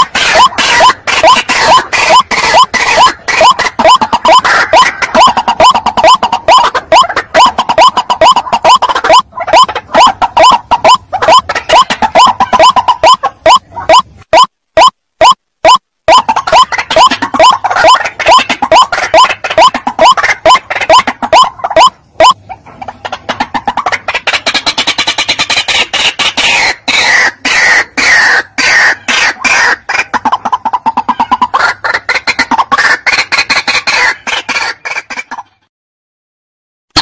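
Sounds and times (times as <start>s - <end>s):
bird harsh repeated calls: 0.0s - 22.6s, 23.8s - 35.1s.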